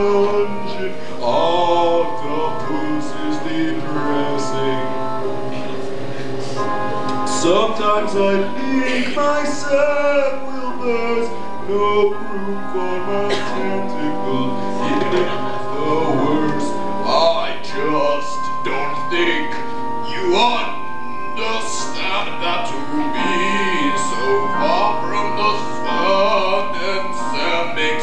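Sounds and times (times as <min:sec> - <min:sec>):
opera singing voice: 0:00.0 - 0:05.8, 0:06.4 - 0:28.0
instrumental backing: 0:00.0 - 0:28.0.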